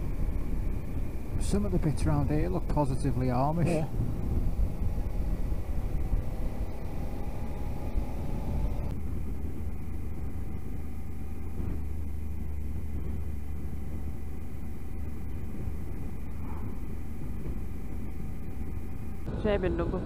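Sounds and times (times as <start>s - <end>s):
motorcycle engine drone: 0.0s - 20.0s
wind rush: 0.0s - 20.0s.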